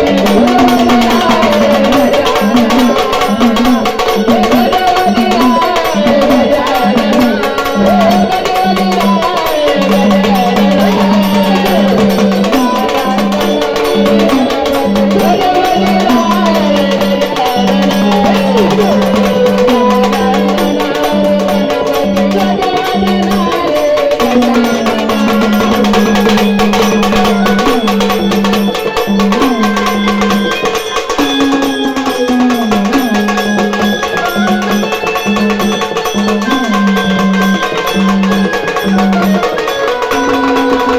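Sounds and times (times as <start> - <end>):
hand drum percussion: 0.0 - 40.9
person singing: 0.0 - 40.9.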